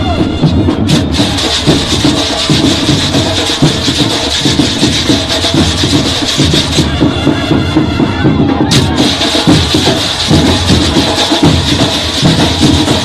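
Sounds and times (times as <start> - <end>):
marching band drumbeat: 0.0 - 13.0.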